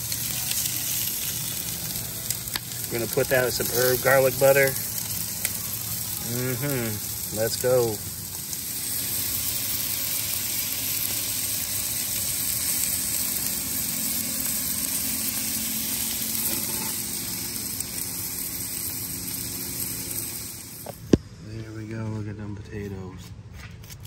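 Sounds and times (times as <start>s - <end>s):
steaks sizzling on grill: 0.0s - 21.2s.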